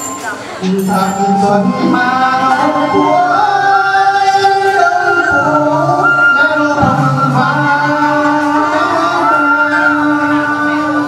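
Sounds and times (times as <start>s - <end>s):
bamboo flute: 0.0s - 11.0s
man singing in long notes: 0.6s - 11.0s.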